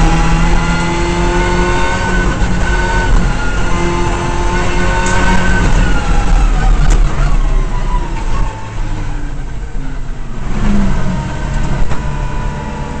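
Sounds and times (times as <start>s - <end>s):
rally car engine from inside: 0.0s - 13.0s.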